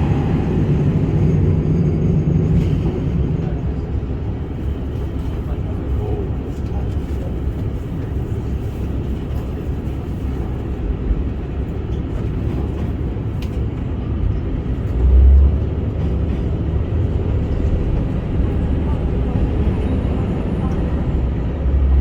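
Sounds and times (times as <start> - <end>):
diesel railcar rumbling: 0.0 - 22.0.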